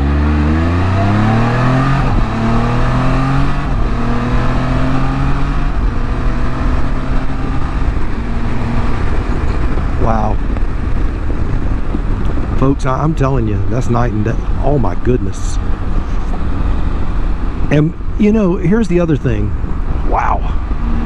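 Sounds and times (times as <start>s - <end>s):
engine accelerating hard: 0.0s - 21.0s
wind rush: 0.5s - 18.2s.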